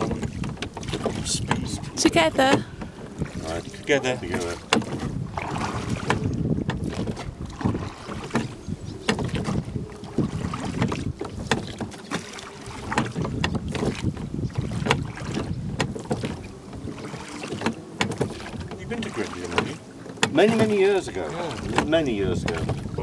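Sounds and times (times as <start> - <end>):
oars knocking in rowlocks: 0.0 - 23.0
wind rumbling on microphone: 0.0 - 23.0.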